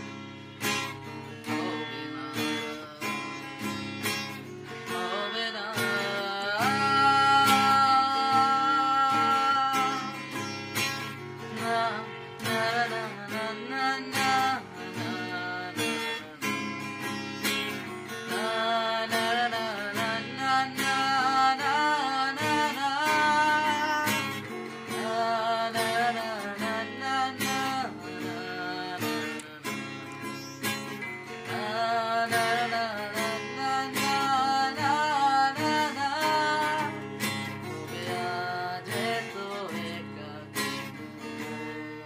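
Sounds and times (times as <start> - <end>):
strummed acoustic guitar: 0.0 - 42.0
man singing: 1.4 - 3.9, 4.7 - 29.9, 31.2 - 42.0.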